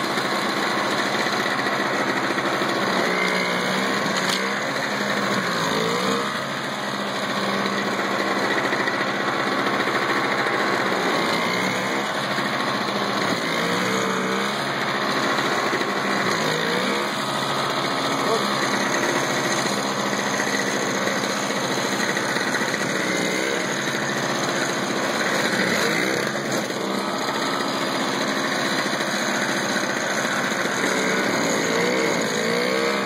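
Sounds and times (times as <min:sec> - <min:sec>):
snowblower engine running: 0:00.0 - 0:33.0.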